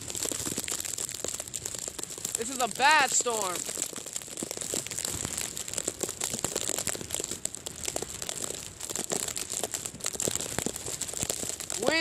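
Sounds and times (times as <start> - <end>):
bag crinkling on microphone: 0.0 - 12.0.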